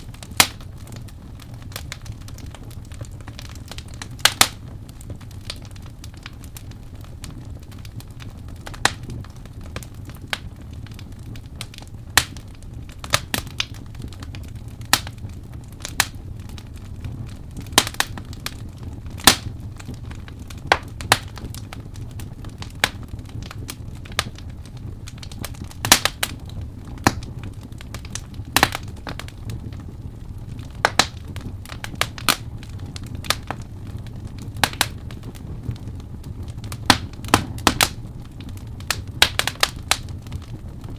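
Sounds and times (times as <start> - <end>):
fire pops and snaps: 0.0 - 40.9
low rumble of burning: 0.0 - 40.9
wood fire crackling: 0.0 - 40.9.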